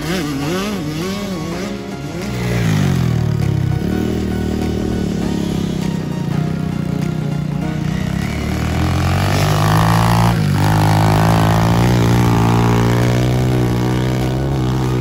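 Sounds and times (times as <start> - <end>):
motocross bike engine running: 0.0 - 15.0.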